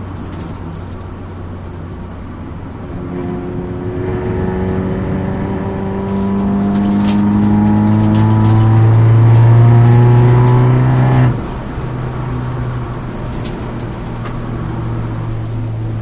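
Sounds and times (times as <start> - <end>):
car engine pulling under load: 0.0 - 16.0
tyre and road noise: 0.0 - 16.0.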